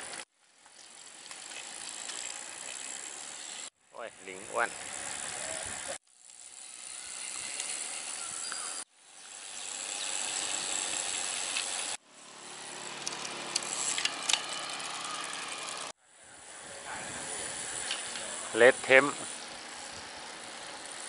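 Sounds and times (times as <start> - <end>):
bicycles rushing on paved road: 0.0 - 21.0.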